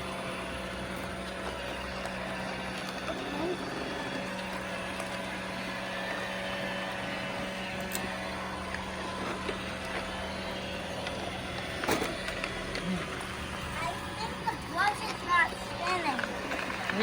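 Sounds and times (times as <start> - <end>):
robot vacuum motor whirring: 0.0 - 17.0.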